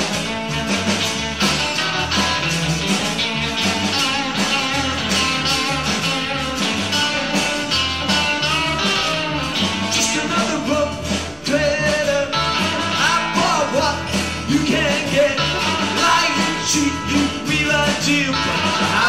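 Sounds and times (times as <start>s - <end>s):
drum kit with snare and cymbals: 0.0s - 19.0s
electric guitar: 0.0s - 19.0s.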